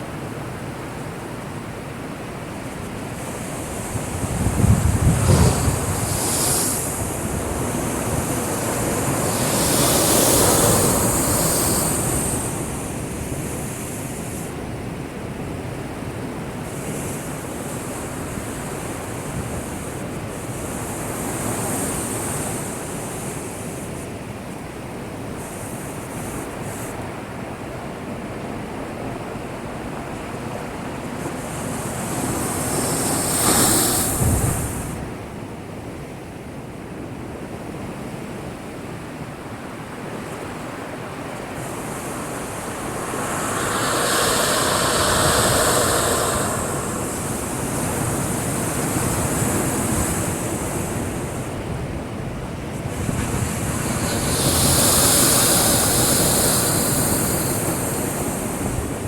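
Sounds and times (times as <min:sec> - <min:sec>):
surf rushing against breakwater: 0:00.0 - 0:24.8, 0:25.4 - 0:36.3, 0:37.5 - 0:59.0.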